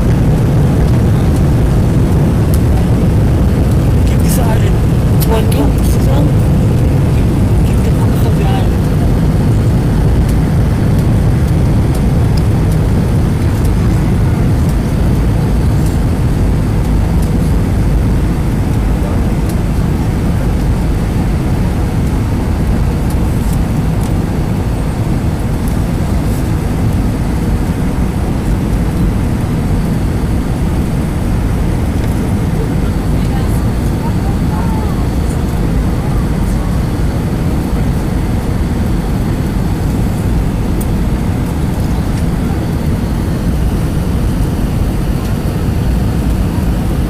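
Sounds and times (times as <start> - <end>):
airliner cabin engine rush: 0.0 - 47.0.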